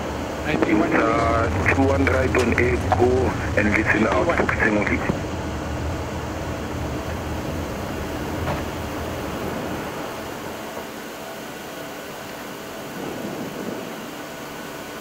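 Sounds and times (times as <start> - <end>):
low aircraft rumble: 0.0 - 15.0.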